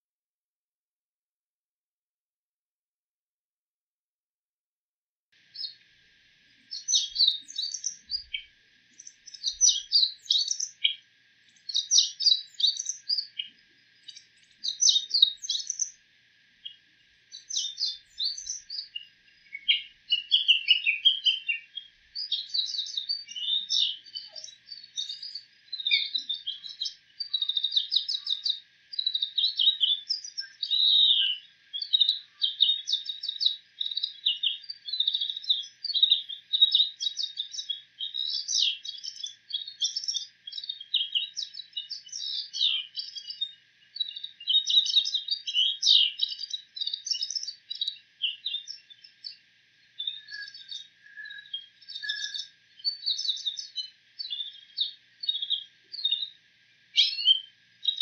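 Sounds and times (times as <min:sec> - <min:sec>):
shrike singing mimicked bird calls: 0:05.5 - 0:05.8, 0:06.6 - 0:16.0, 0:16.6 - 0:49.4, 0:50.0 - 0:56.4, 0:57.0 - 0:58.0.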